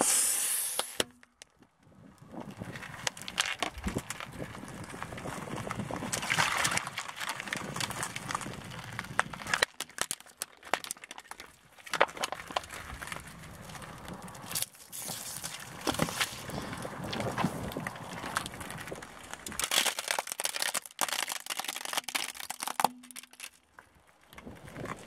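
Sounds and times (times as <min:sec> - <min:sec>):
plastic crackling under a tyre: 0:00.0 - 0:25.0
jelly squashed under a tyre: 0:02.3 - 0:23.6.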